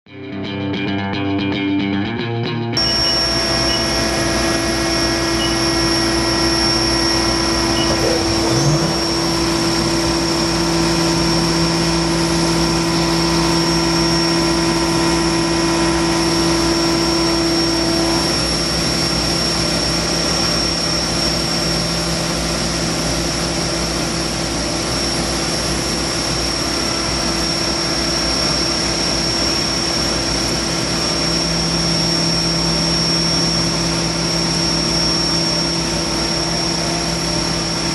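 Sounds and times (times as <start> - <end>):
low machine tone: 2.8 - 37.9
machine hum and whine: 2.8 - 37.9.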